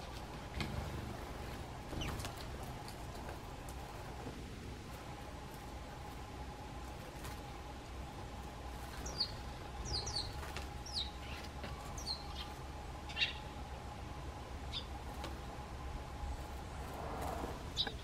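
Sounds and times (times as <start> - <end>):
faint steady hum: 0.0 - 18.0
sparrows chirping: 0.0 - 18.0.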